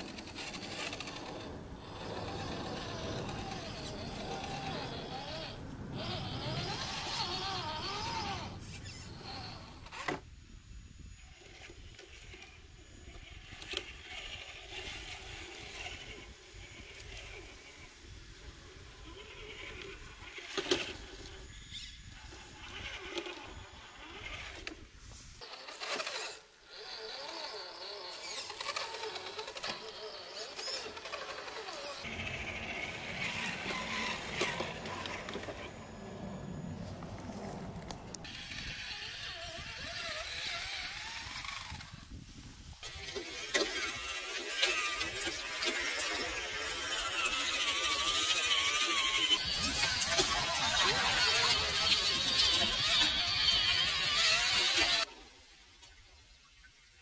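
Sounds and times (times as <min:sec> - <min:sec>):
toy car electric motors whining: 0:00.0 - 0:56.0.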